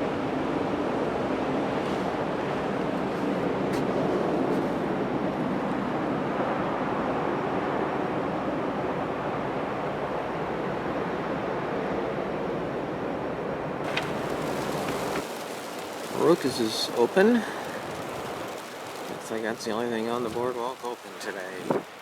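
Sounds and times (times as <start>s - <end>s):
blizzard wind rushing: 0.0s - 22.0s.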